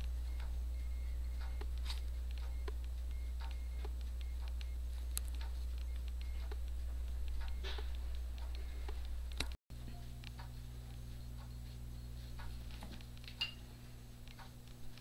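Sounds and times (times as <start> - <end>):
toothpick pricking dough ticks: 0.0 - 13.6, 14.2 - 15.0
low electrical hum: 0.0 - 15.0.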